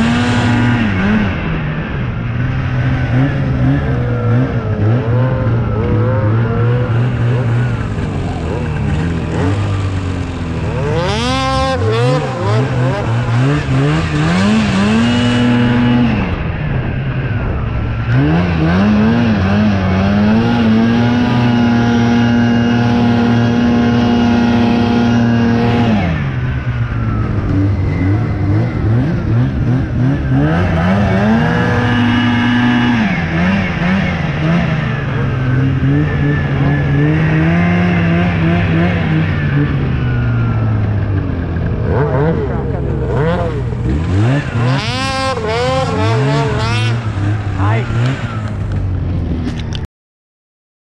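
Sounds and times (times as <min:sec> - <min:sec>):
snowmobile engine revving: 0:00.0 - 0:49.8.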